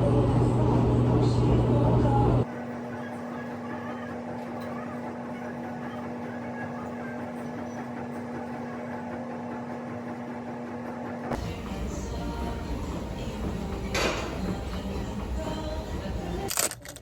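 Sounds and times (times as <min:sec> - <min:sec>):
machine hum: 0:00.0 - 0:10.6, 0:11.3 - 0:16.6.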